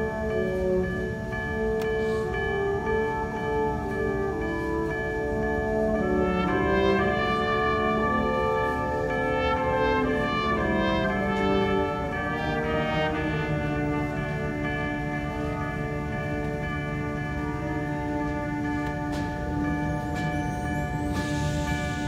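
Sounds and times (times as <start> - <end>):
concert band playing: 0.0 - 22.0.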